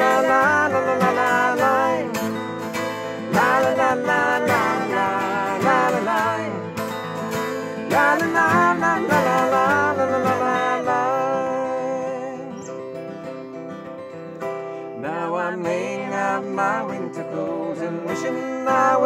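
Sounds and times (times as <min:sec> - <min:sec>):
person singing la la la: 0:00.0 - 0:12.8, 0:15.0 - 0:19.0
acoustic guitar strumming: 0:00.0 - 0:19.0.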